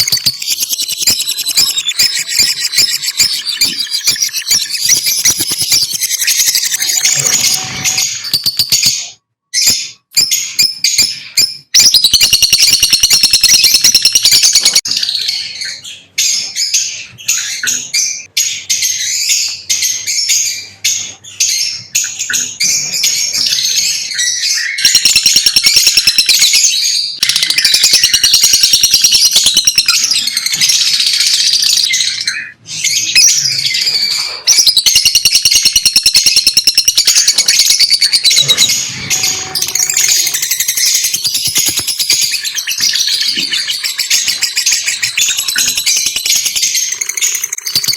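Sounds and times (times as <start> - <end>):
lovebirds chattering: 0.0 - 26.6, 27.2 - 47.9.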